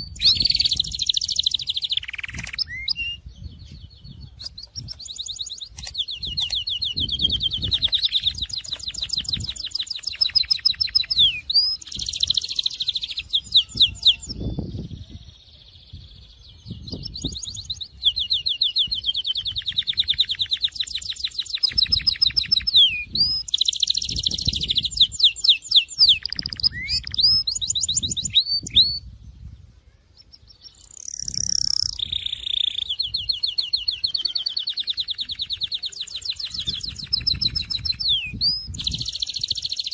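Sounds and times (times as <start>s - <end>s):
canary singing: 0.0s - 3.4s, 4.0s - 14.7s, 15.6s - 29.2s, 30.0s - 39.9s.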